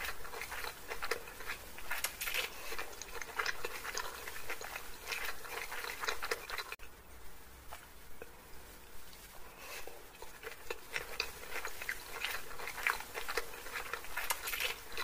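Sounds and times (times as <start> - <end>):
chewing and slurping noodles: 0.0 - 6.8, 9.7 - 15.0.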